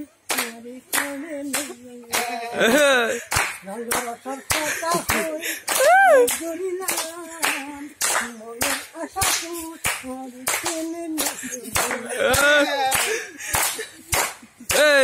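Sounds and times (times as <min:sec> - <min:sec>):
rhythmic hand clapping: 0:00.0 - 0:15.0.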